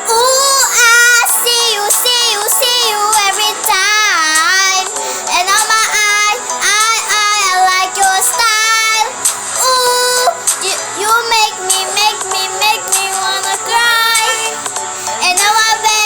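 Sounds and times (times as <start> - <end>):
backing music: 0.0 - 16.0
high voice singing: 0.0 - 16.0.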